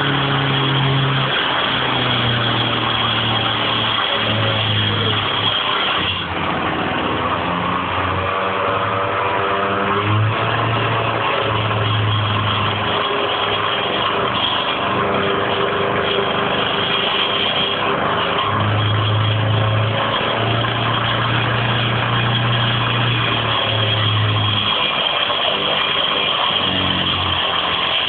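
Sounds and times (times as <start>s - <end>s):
petrol saw engine running hard: 0.0s - 28.0s.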